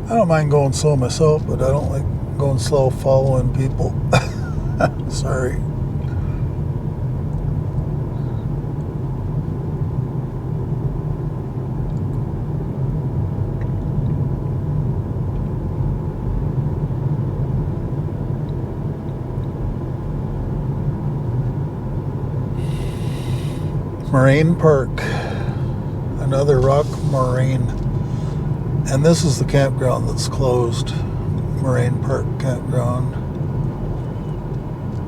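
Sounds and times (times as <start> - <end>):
road and tyre rumble: 0.0 - 35.0.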